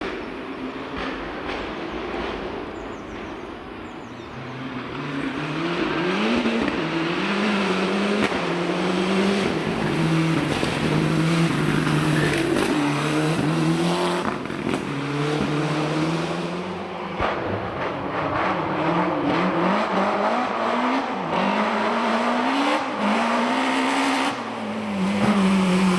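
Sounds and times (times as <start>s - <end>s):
rally car engine revving: 4.3s - 25.9s.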